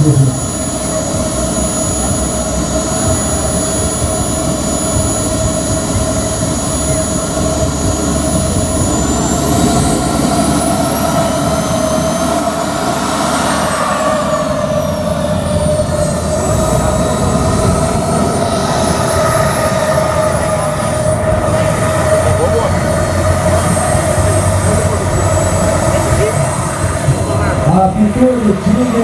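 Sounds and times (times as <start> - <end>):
model jet turbine rush and whine: 0.0 - 29.0.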